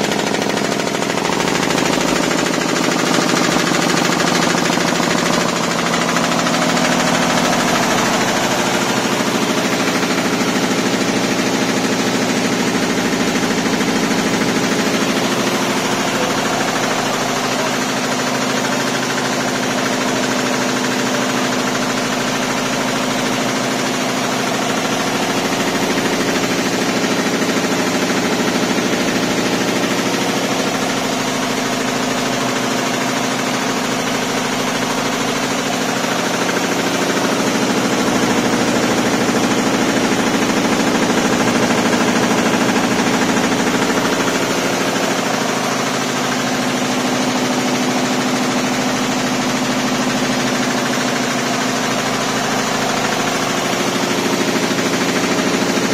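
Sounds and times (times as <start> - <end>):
embroidery machine clattering: 0.0 - 55.9.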